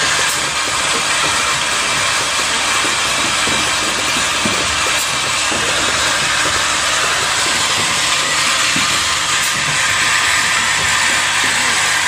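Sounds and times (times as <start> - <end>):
machine hissing: 0.0 - 12.0.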